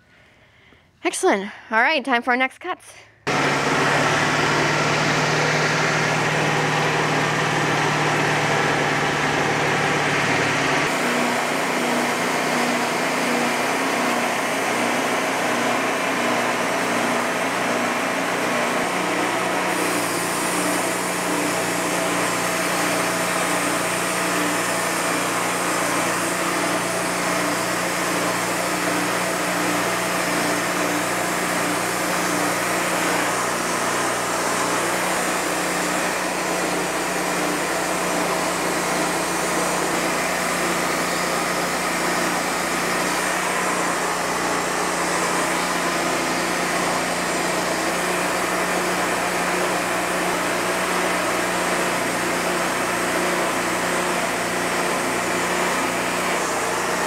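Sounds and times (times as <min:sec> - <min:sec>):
band sawmill running: 0:03.2 - 0:57.0.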